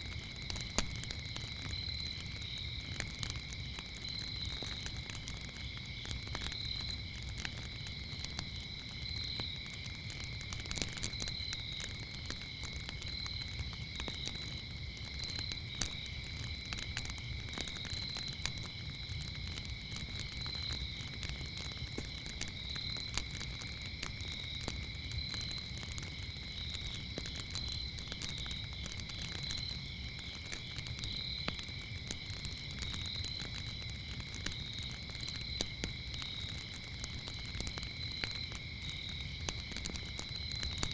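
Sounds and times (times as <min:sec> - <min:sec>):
crickets trilling: 0:00.0 - 0:40.9
wood fire crackling and popping: 0:00.0 - 0:40.9.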